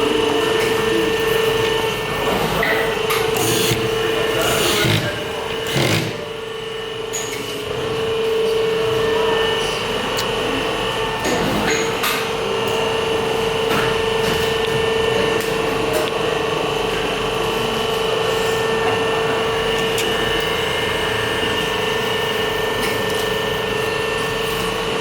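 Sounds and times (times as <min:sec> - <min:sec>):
machinery whining: 0:00.0 - 0:25.0.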